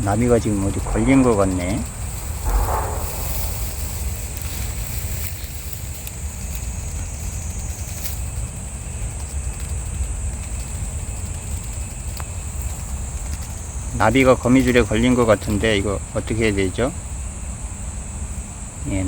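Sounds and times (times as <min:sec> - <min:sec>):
faint ticks: 0:00.0 - 0:15.6
wind rumble on microphone: 0:00.0 - 0:16.9
insects chirring: 0:00.0 - 0:19.0.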